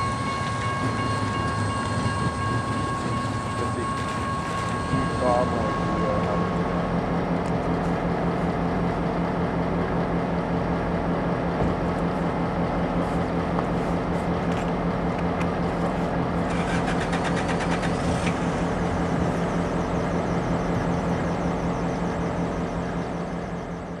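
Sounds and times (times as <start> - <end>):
engine humming steadily: 0.2 - 24.0.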